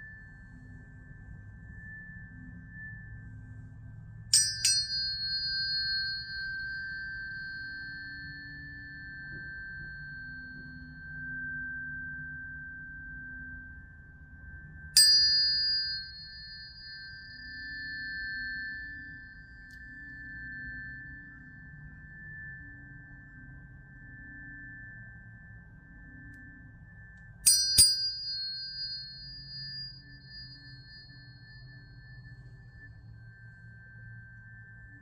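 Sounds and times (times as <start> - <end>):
tuning forks ringing: 0.0 - 35.0.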